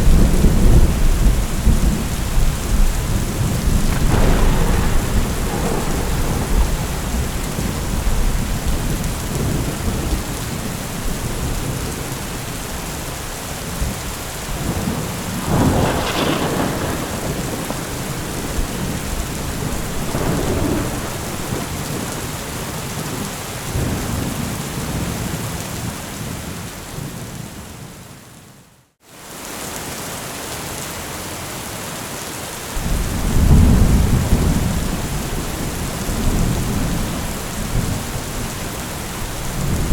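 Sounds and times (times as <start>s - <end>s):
thunder rumbling: 0.0s - 25.2s, 32.8s - 39.9s
steady rain falling: 0.0s - 39.9s.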